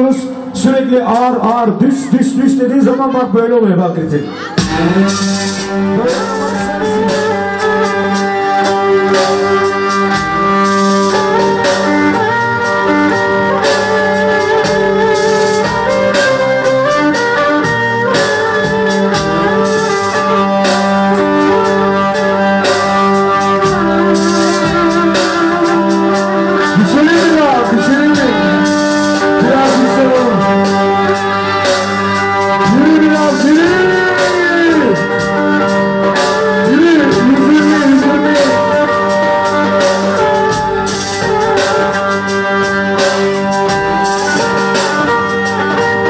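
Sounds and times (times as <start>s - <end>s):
melody instrument over drone: 0.0s - 46.0s
drum beating: 4.2s - 46.0s.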